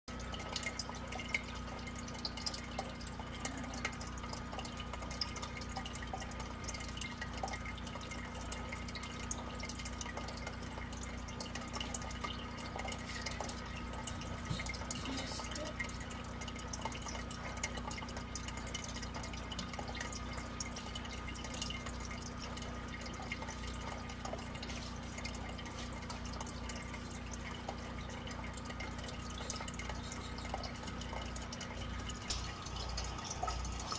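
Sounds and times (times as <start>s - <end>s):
faint steady hum: 0.1s - 33.9s
water trickling and dripping: 0.1s - 33.9s.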